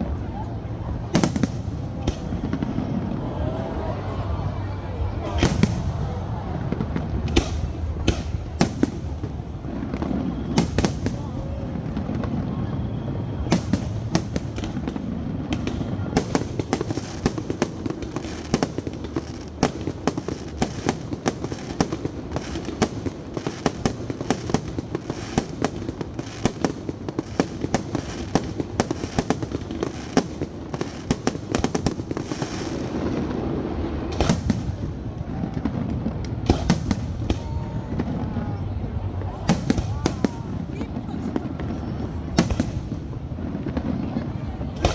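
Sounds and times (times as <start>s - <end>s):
fireworks cracks and bangs: 0.0s - 44.9s.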